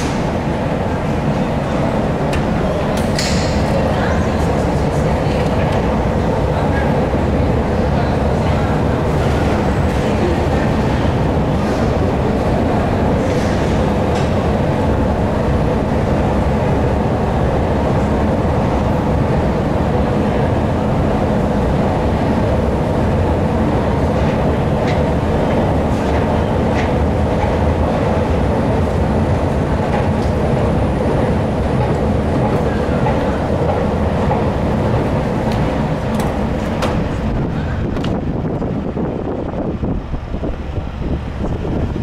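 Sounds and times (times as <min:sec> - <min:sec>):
escalator rumbling and clattering: 0:00.0 - 0:42.0.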